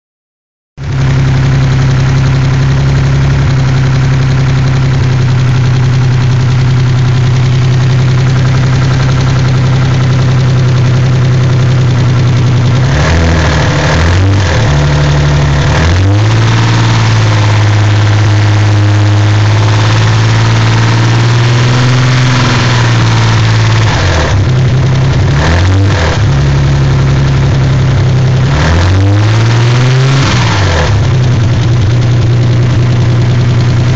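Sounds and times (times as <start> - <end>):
car engine idling and revving: 0.8 - 33.9.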